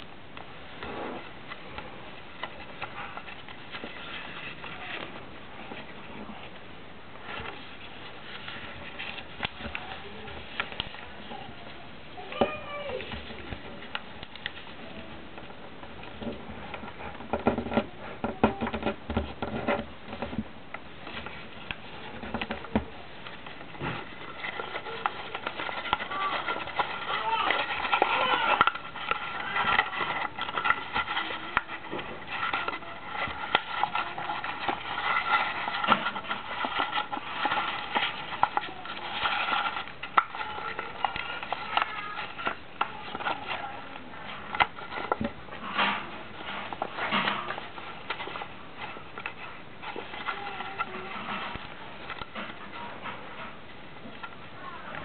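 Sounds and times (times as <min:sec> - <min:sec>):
paper crinkling and rustling: 0:00.7 - 0:55.0.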